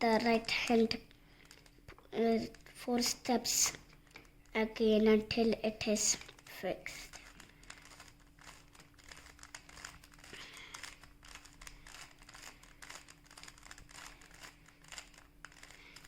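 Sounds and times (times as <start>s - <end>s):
plastic puzzle cube clicking: 0.2s - 4.8s, 6.1s - 16.0s.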